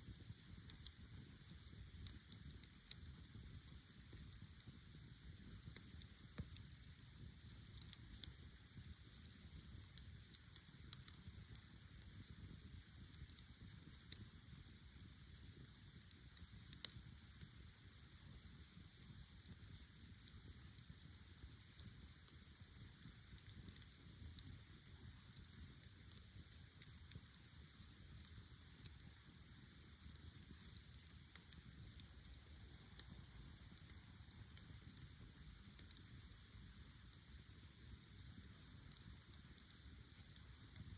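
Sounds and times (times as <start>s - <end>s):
crickets chirring: 0.0s - 40.9s
campfire crackling: 0.1s - 40.9s.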